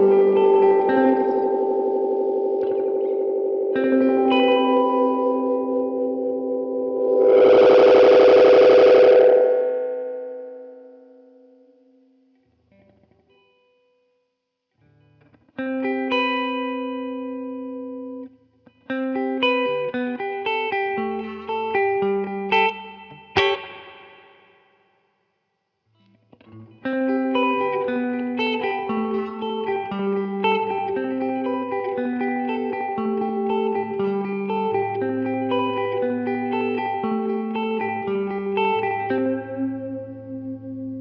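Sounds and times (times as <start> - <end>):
clean electric guitar with delay: 0.0 - 11.8, 15.1 - 23.9, 26.4 - 41.0.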